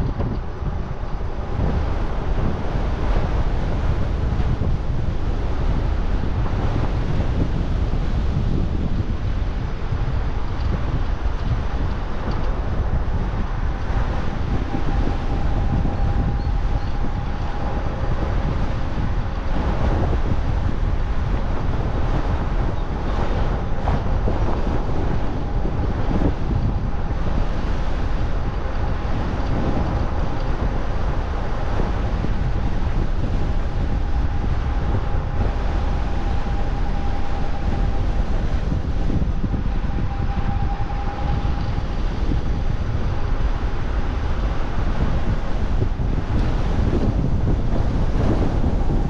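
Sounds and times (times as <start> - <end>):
faint steady whine: 0.0 - 49.0
wind buffeting microphone: 0.0 - 49.0.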